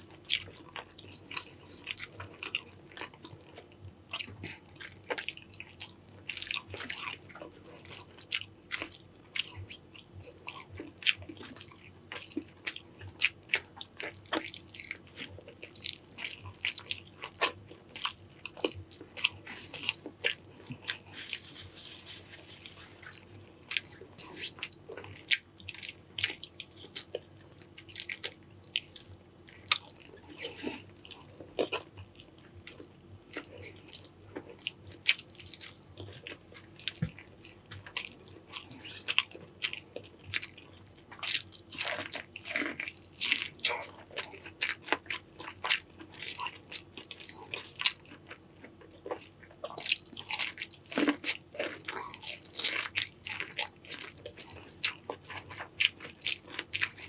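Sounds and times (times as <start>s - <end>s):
person crunching and chewing food: 0.0s - 57.0s.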